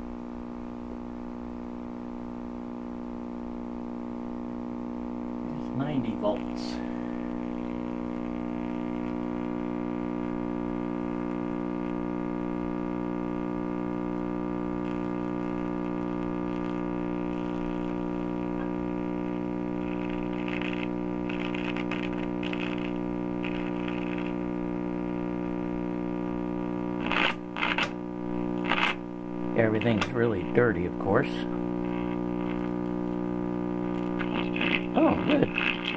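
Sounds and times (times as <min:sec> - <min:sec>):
radio receiver hum: 0:00.0 - 0:35.9
faint scratchy tuning sounds: 0:00.6 - 0:35.9.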